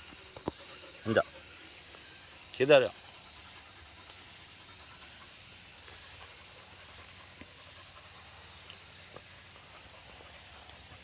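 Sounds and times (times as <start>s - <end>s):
faint outdoor background hiss: 0.0s - 11.0s.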